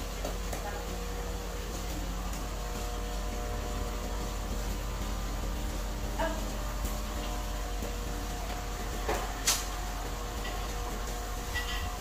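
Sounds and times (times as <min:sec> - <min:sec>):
air pumps hissing and humming: 0:00.0 - 0:12.0.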